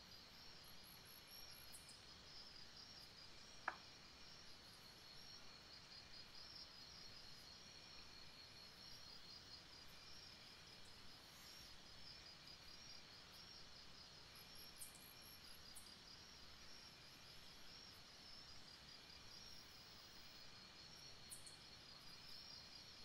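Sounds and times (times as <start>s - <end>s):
faint hiss: 0.0s - 23.0s.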